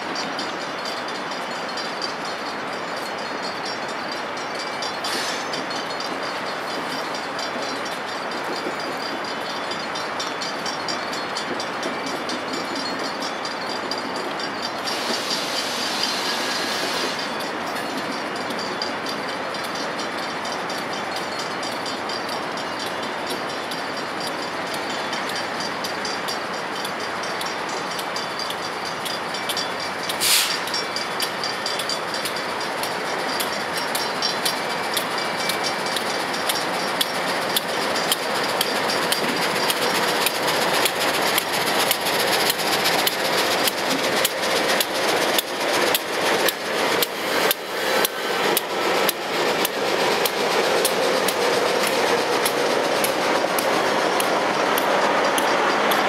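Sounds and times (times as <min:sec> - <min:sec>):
diesel locomotive passing: 0:00.0 - 0:56.0
wheels clicking over rail joints: 0:00.0 - 0:56.0.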